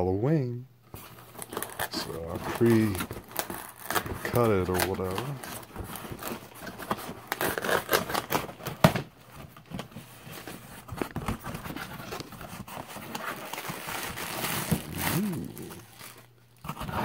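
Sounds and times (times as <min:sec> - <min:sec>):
cardboard and plastic packing rustling: 0:00.9 - 0:17.0.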